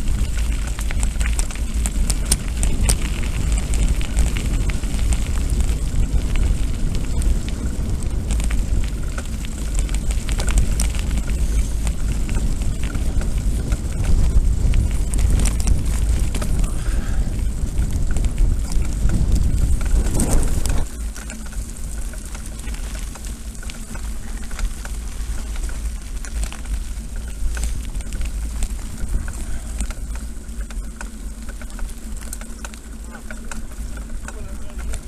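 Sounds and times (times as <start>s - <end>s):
bike rattling: 0.0s - 35.0s
bike tyres crunching on gravel: 0.0s - 35.0s
wind buffeting microphone: 0.0s - 35.0s.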